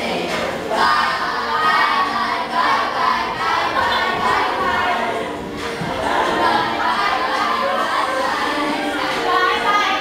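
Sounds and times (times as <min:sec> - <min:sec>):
group singing and shouting: 0:00.0 - 0:10.0.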